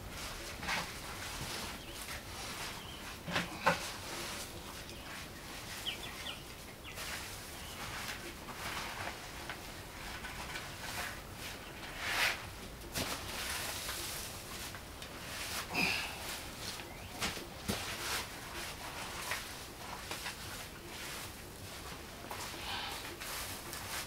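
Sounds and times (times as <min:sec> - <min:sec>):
dung and straw rustling: 0:00.0 - 0:24.0.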